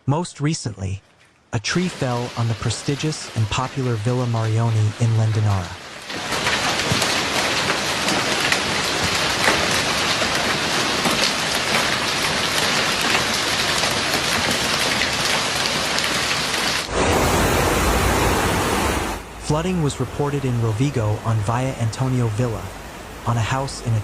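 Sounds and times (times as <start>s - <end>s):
rushing downpour with low rumble: 0.4s - 24.0s
heavy rain pelting down: 1.0s - 24.0s.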